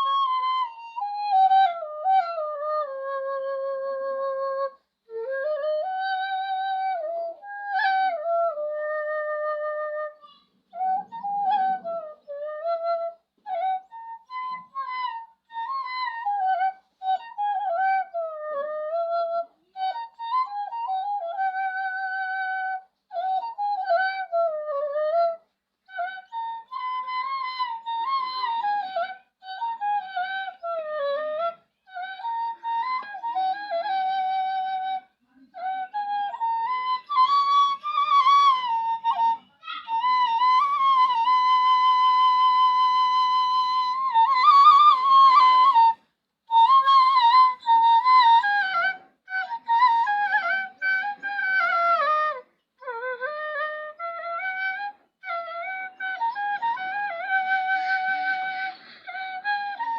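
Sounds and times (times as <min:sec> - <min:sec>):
bamboo flute folk melody: 0:00.0 - 0:59.9.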